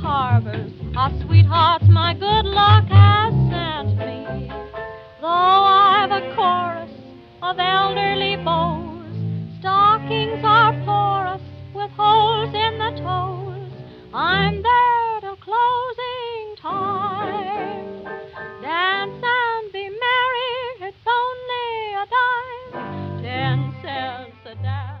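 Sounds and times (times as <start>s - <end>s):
instrumental accompaniment: 0.0s - 15.0s, 16.7s - 19.5s, 22.7s - 25.0s
woman singing with vibrato: 0.0s - 25.0s.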